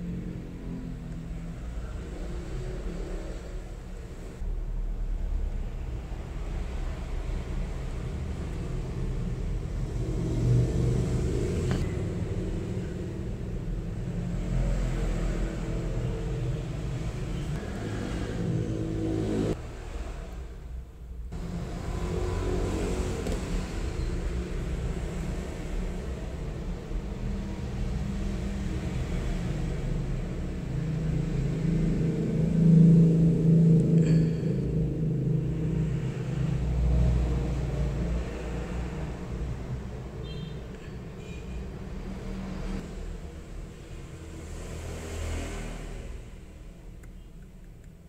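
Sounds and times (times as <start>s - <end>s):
hum: 0.0s - 40.0s.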